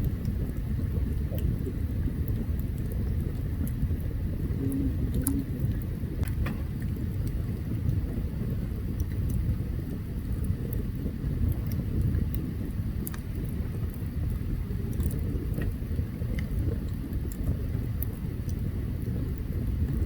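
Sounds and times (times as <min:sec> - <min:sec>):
campfire crackling and popping: 0:00.0 - 0:20.0
low rumble: 0:00.0 - 0:20.0.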